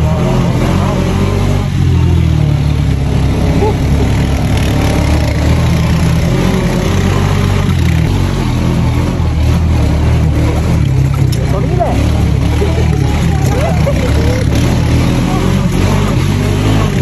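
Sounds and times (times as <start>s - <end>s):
buggy engine droning: 0.0s - 17.0s.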